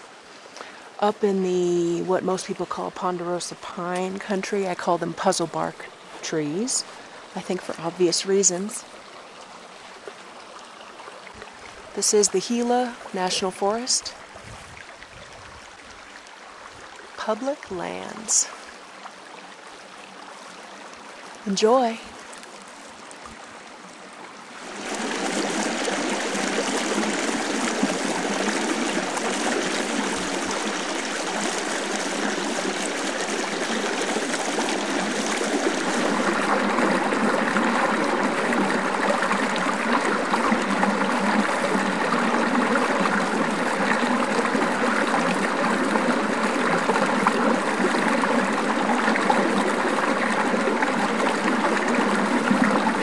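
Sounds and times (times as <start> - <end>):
river water rushing: 5.4 - 53.0.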